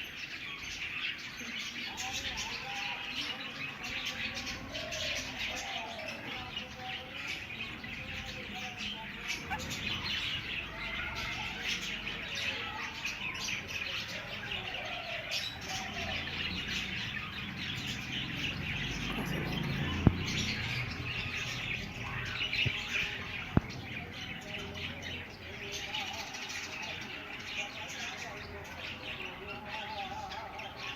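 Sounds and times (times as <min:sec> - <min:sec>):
budgerigars chattering: 0:00.0 - 0:30.9.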